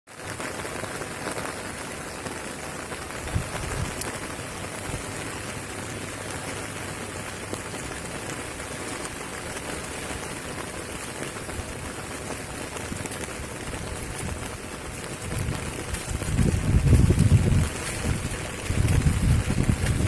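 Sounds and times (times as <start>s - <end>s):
rain falling: 0.1s - 20.0s.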